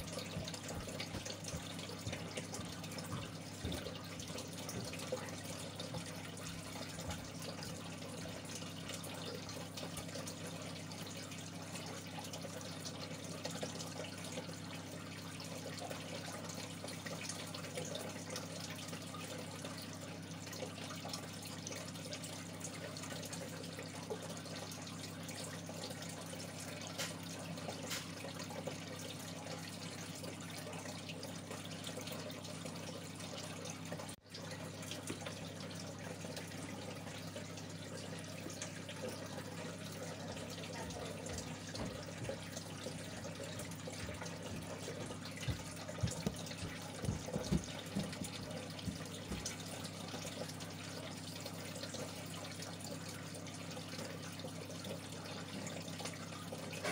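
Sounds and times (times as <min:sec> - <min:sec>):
pump hum: 0:00.0 - 0:56.9
water trickling into tank: 0:00.0 - 0:56.9.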